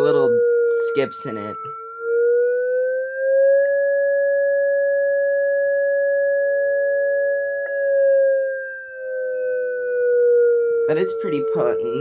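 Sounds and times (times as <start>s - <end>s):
two-pitch siren tone: 0.0s - 12.0s.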